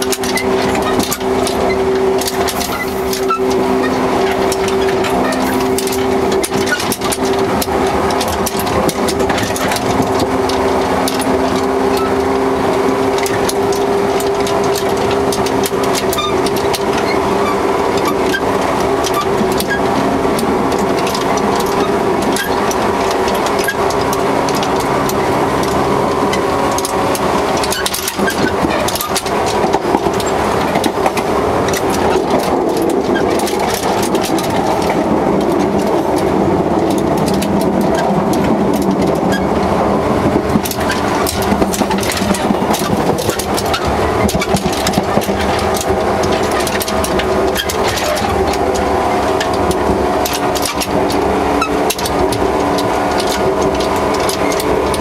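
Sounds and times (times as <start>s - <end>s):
coupler rattling and clicking: 0.0s - 55.0s
train running rumble: 0.0s - 55.0s.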